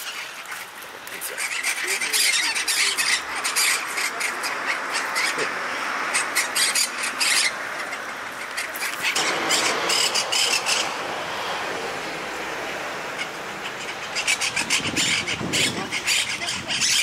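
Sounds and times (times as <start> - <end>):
parakeet harsh squawks: 1.3 - 11.4, 13.1 - 17.0.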